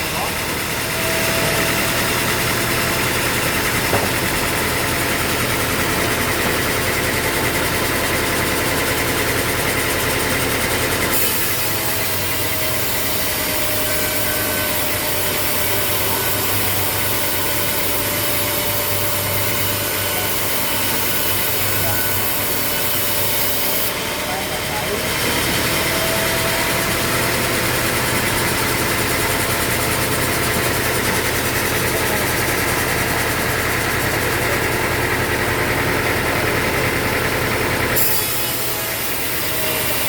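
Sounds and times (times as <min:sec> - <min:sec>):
sawmill machinery hum: 0:00.0 - 0:40.0.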